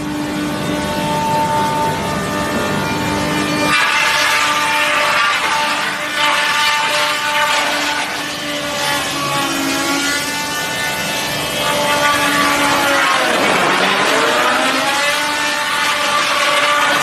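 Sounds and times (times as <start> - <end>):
wood crusher machine drone: 0.0 - 17.0.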